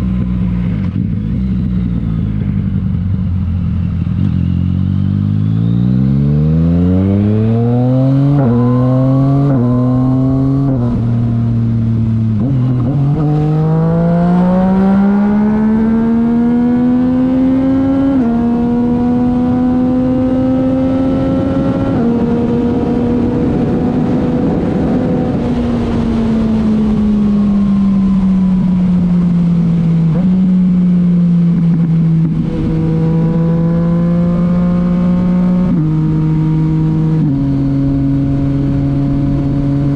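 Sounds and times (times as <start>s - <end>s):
motorcycle engine accelerating: 0.0s - 39.9s
quickshifter upshifts: 5.5s - 39.7s.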